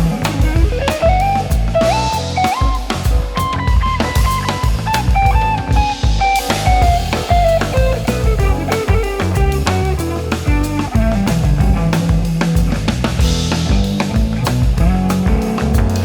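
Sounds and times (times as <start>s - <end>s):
bass line: 0.0s - 16.0s
drum kit beat: 0.0s - 16.0s.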